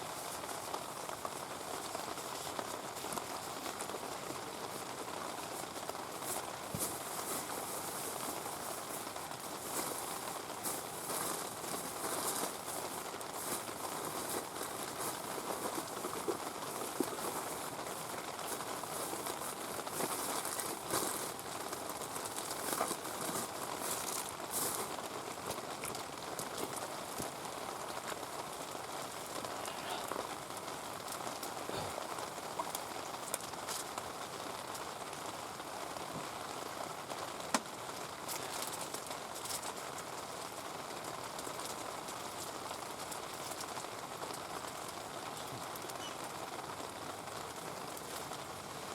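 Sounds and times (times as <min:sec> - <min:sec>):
campfire crackling: 0:00.0 - 0:48.9
heavy rain falling: 0:00.0 - 0:48.9.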